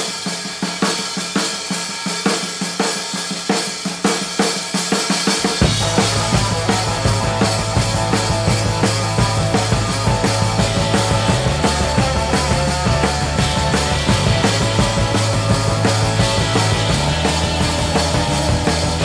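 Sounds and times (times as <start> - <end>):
bass and other instruments: 0.0 - 19.0
drum-kit beat: 0.0 - 19.0.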